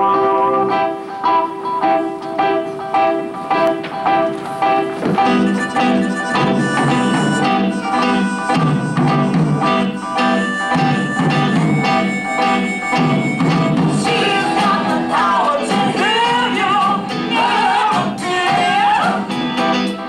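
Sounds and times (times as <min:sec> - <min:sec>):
rock band instrumental: 0:00.0 - 0:20.0.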